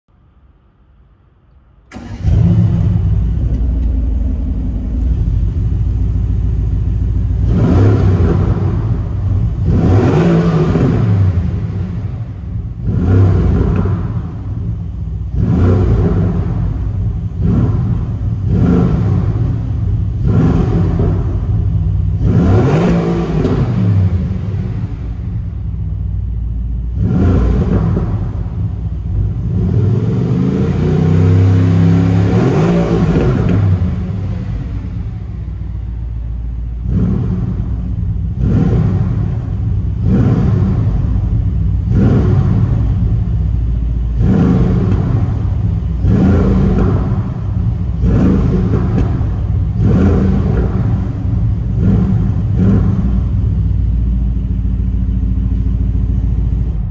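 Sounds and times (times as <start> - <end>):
engine idling: 0.2 - 56.9
car engine revving: 1.8 - 56.9.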